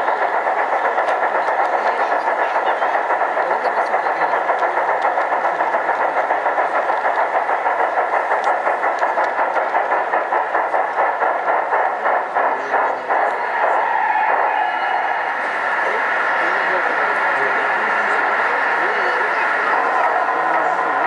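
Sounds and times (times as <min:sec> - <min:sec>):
model train chuffing: 0:00.0 - 0:21.0.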